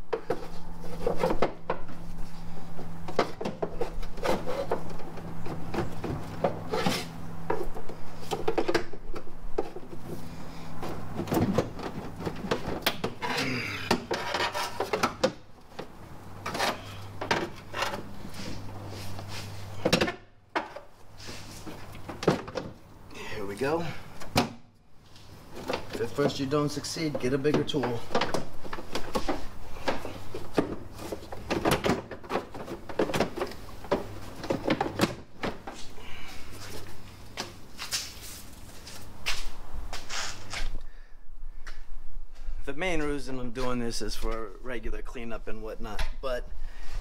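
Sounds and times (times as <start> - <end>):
hand tools clunking and scraping: 0.0 - 40.8
steady low hum: 0.0 - 47.0.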